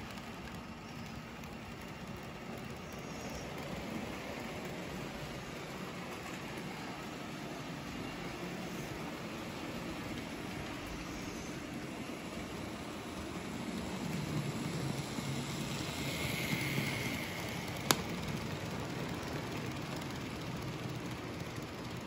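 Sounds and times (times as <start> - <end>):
model locomotive motor whining: 0.0 - 22.0
wheels on rails: 0.0 - 22.0.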